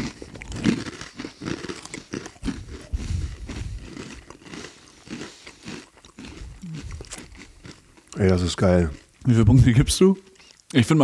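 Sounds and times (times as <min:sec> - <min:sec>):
crunchy cracker chewing: 0:00.0 - 0:09.5, 0:10.3 - 0:10.8.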